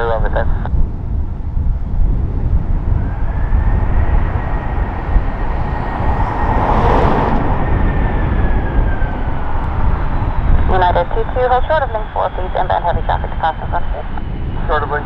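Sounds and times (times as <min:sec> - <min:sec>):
jet engines rushing: 0:00.0 - 0:15.0
low rumble: 0:00.0 - 0:15.0
thin steady whine: 0:00.0 - 0:15.0.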